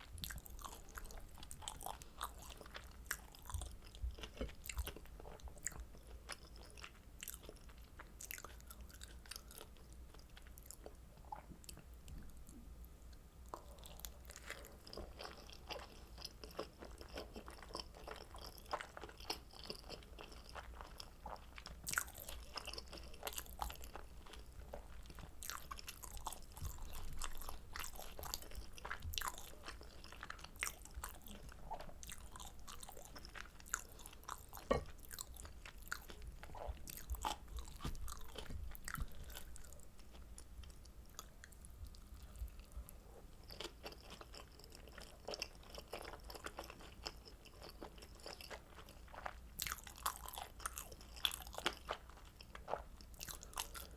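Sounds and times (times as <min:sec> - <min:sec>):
close-miked chewing: 0:00.0 - 0:53.9.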